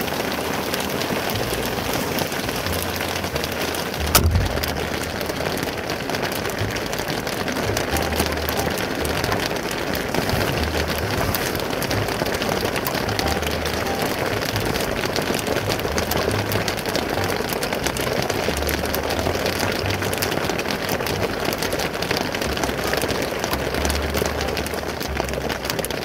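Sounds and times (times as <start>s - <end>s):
heavy rain on gravel and leaves: 0.0s - 26.0s.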